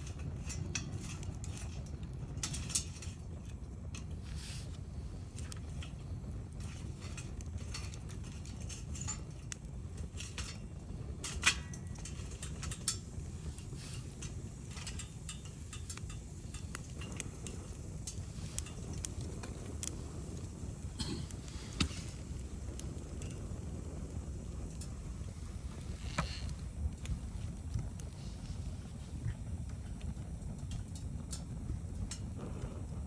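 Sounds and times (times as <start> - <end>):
bonfire crackling and popping: 0.0 - 33.0
low rumble of flames: 0.0 - 33.0.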